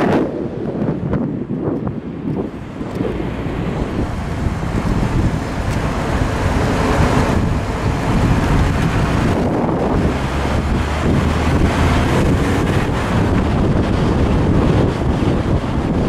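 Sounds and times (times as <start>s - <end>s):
tyre and road noise: 0.0s - 16.0s
wind buffeting microphone: 0.0s - 16.0s
car engine running: 0.1s - 16.0s.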